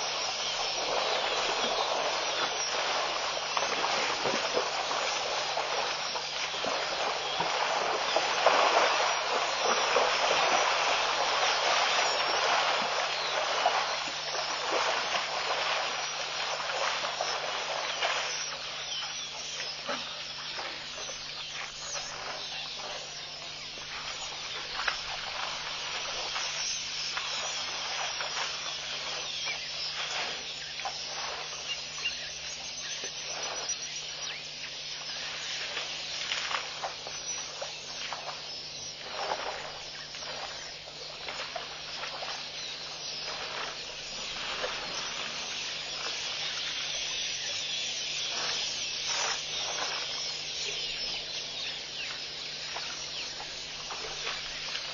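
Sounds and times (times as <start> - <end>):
elephants splashing in water: 0.0 - 54.9.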